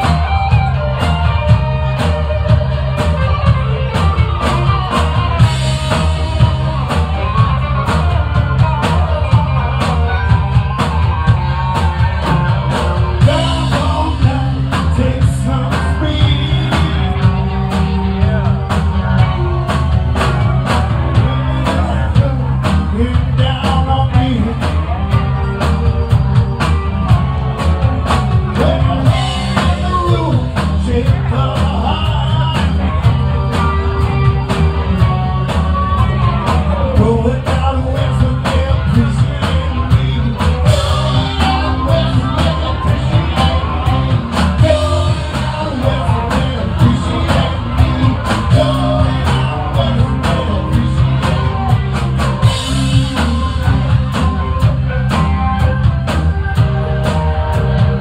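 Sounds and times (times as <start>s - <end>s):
bass guitar: 0.0s - 58.0s
drum kit beat: 0.0s - 58.0s
electric guitars: 0.0s - 58.0s
person singing: 3.3s - 55.9s.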